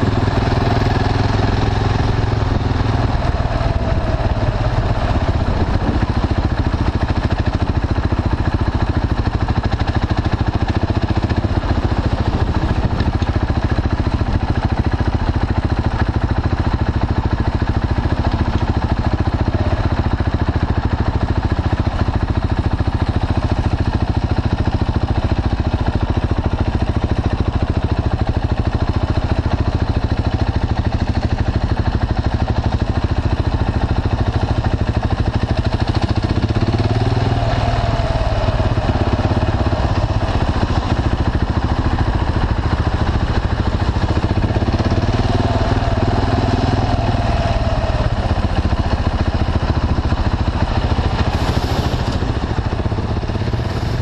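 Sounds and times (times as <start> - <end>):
motorcycle engine running at low revs: 0.0 - 54.0.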